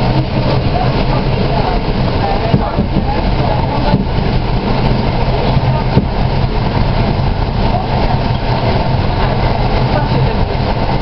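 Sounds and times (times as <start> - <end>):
diesel engine drone: 0.0 - 11.0
wheels rumbling on track: 0.0 - 11.0.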